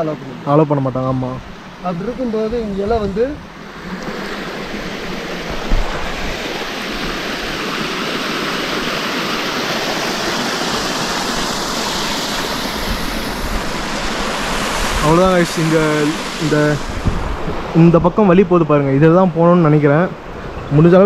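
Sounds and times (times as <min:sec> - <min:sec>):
stream rushing over rocks: 0:03.4 - 0:21.0.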